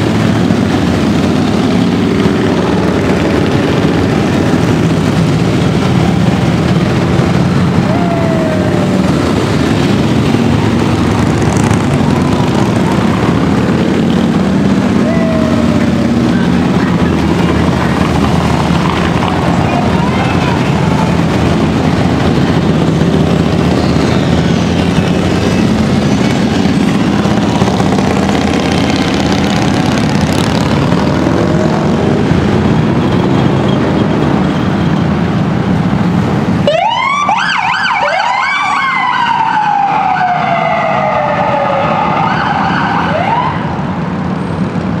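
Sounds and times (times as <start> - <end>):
motorcycles passing: 0.0 - 45.0
police sirens wailing: 0.0 - 45.0.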